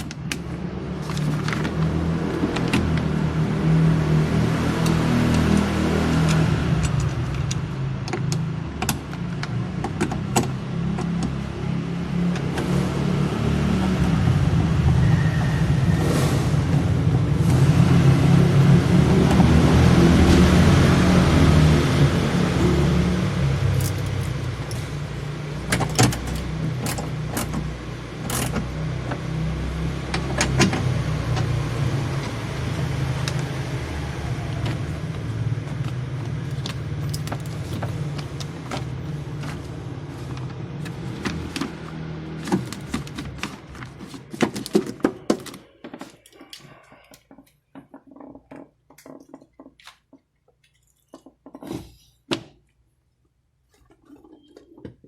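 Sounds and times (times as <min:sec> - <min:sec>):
car engine rumbling: 0:00.0 - 0:46.3.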